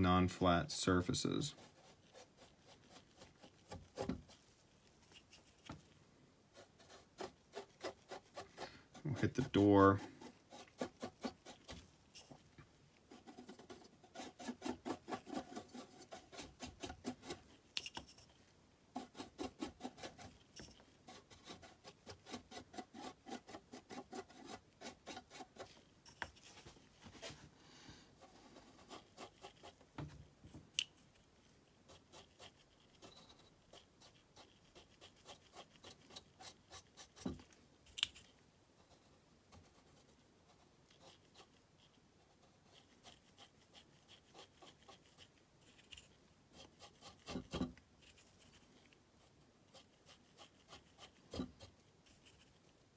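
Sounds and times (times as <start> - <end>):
small brush scratching: 0.0 - 27.5, 28.1 - 52.8.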